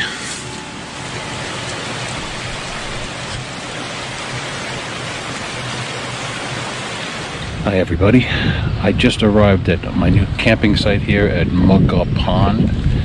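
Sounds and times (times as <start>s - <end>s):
creek running over rocks: 0.0s - 11.5s.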